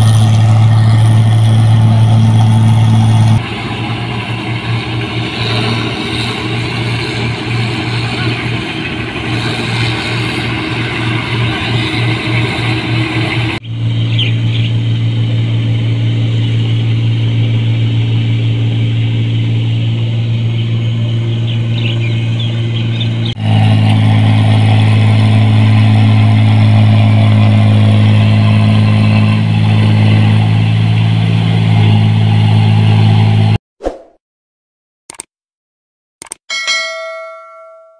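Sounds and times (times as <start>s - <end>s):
combine harvester diesel engines: 0.0s - 33.6s.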